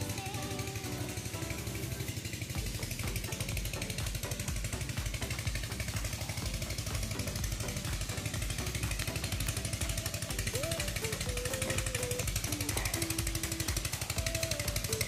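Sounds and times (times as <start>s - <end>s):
pump engine chugging: 0.0s - 15.0s.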